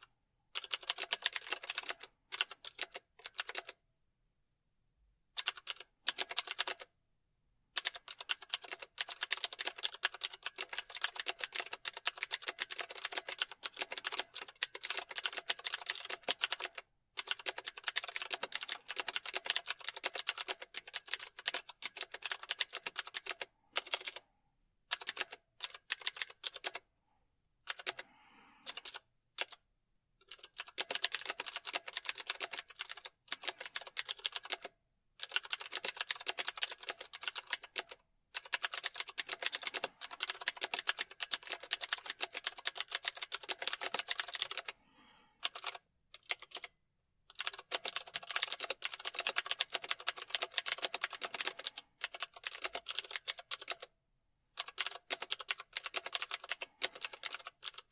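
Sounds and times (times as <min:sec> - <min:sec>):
typing on keyboard: 0:00.0 - 0:03.8, 0:05.4 - 0:06.9, 0:07.8 - 0:24.2, 0:24.9 - 0:26.8, 0:27.7 - 0:28.0, 0:28.6 - 0:29.6, 0:30.2 - 0:44.8, 0:45.4 - 0:54.0, 0:54.6 - 0:57.9.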